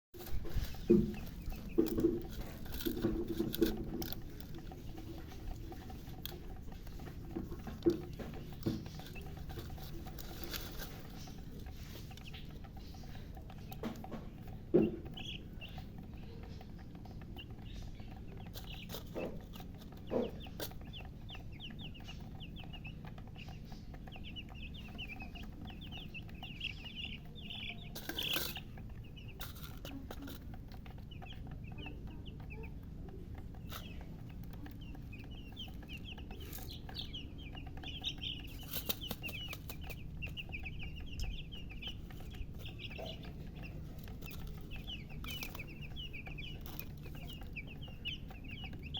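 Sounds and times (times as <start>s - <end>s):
chicks peeping: 0.2s - 48.9s.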